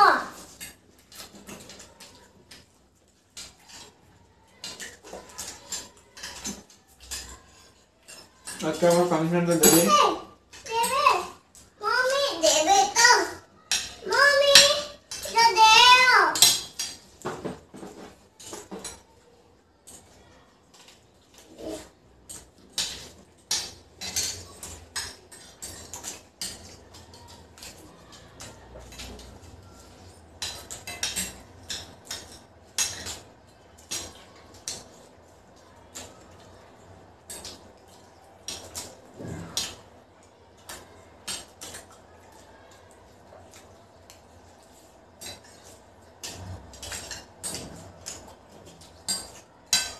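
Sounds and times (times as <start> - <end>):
cutlery clinking and scraping plates: 0.3 - 11.7, 12.4 - 49.9.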